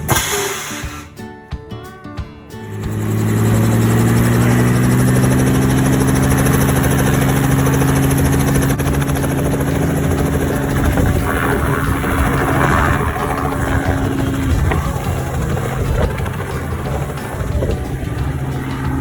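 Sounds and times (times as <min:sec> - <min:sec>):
helicopter engine and rotor: 0:02.7 - 0:19.0.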